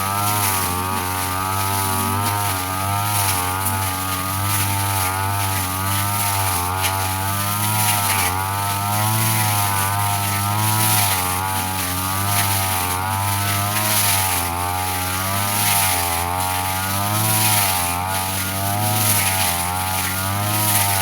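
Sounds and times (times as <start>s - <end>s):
brush cutter engine running: 0.0s - 21.0s.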